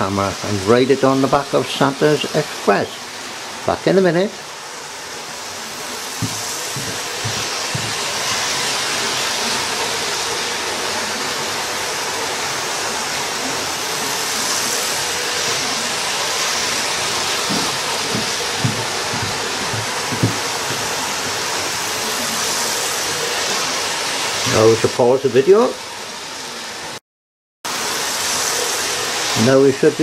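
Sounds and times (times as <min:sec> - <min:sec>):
model train motors whirring on track: 0:00.0 - 0:27.0, 0:27.7 - 0:30.0.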